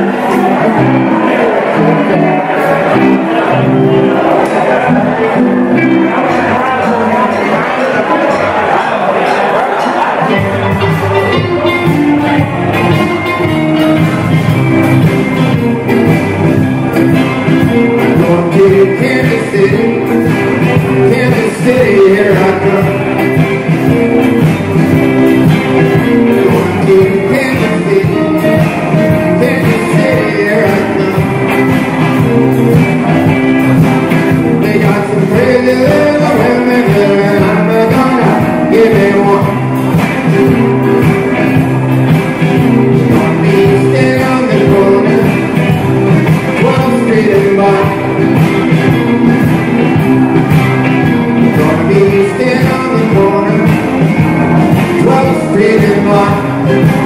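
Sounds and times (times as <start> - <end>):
person singing: 0.0 - 57.0
rock band playing: 0.0 - 57.0.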